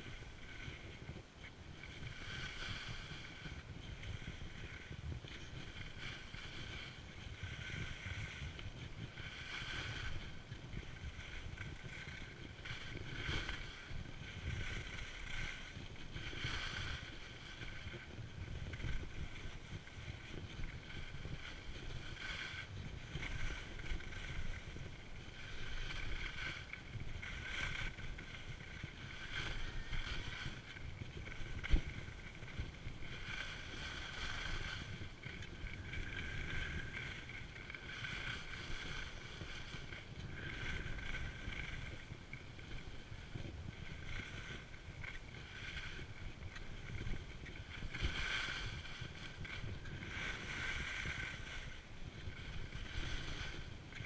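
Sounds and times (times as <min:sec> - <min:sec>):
skis scraping on snow: 0:00.0 - 0:54.0
wind rumble on microphone: 0:00.0 - 0:54.0.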